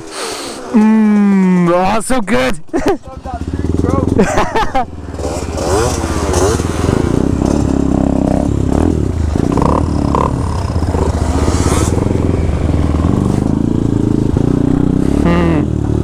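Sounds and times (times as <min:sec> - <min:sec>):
motorcycle engines running: 0:00.0 - 0:16.0.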